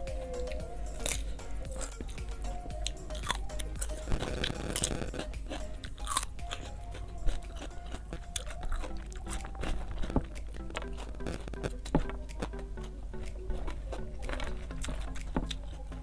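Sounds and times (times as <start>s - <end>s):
crunching and chewing cucumber: 0.6s - 16.0s.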